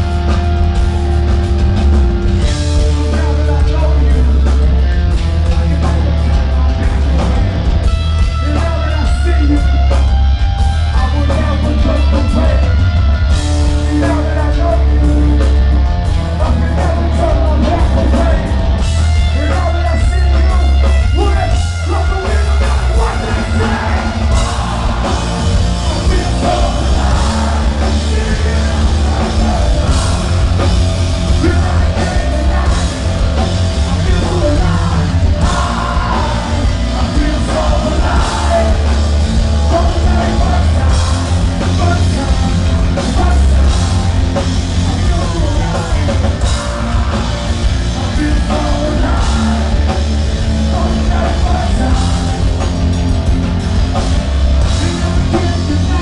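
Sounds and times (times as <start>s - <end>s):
booming bass: 0.0s - 56.0s
distorted electric guitar: 0.0s - 56.0s
drums: 0.0s - 56.0s
man singing and yelling: 2.6s - 7.5s, 8.1s - 53.1s, 54.6s - 56.0s.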